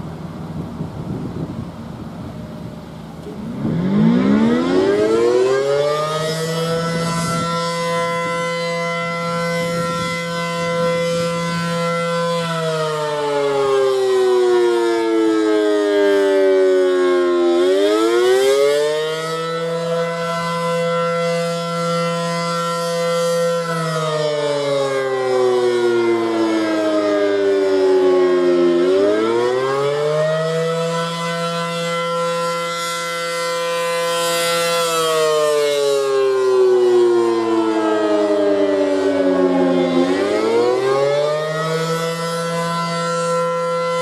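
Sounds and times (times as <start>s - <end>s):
warning siren wailing: 2.6s - 44.0s.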